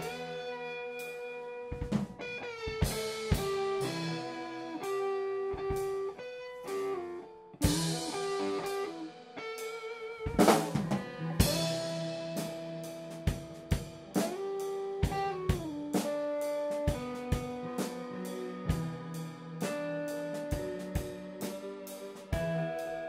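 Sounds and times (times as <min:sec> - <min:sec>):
drum kit playing: 0:00.0 - 0:23.0
keyboard notes: 0:00.0 - 0:23.0
sustained electric guitar: 0:00.0 - 0:23.0.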